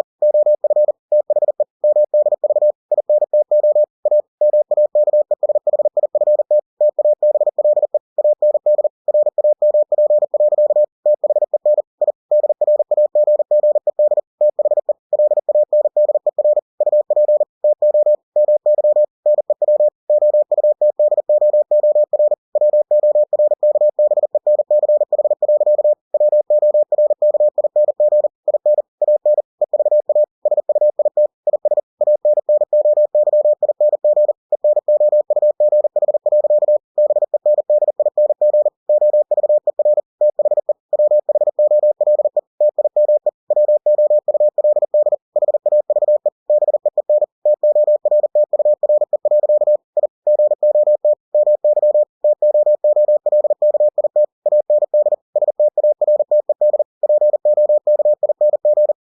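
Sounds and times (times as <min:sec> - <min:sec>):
morse code tone: 0:00.0 - 0:59.0.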